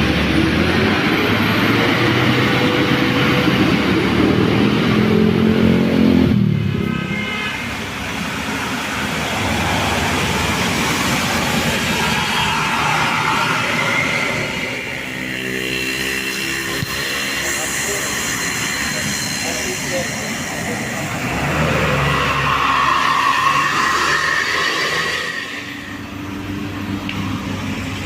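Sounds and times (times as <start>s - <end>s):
bus diesel engine passing: 0.0s - 6.9s, 7.6s - 28.0s
vehicle engine: 0.0s - 28.0s.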